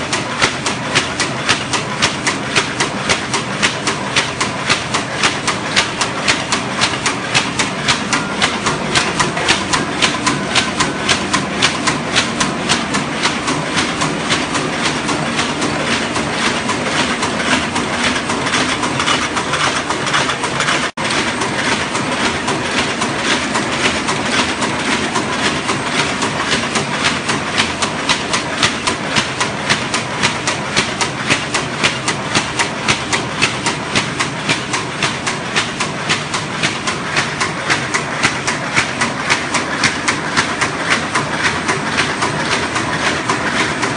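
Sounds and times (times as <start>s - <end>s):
machine mechanical clatter: 0.0s - 43.9s.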